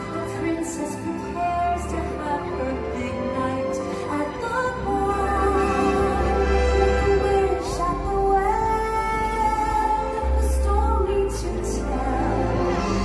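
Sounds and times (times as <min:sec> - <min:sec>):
music with woman singing: 0:00.0 - 0:13.0.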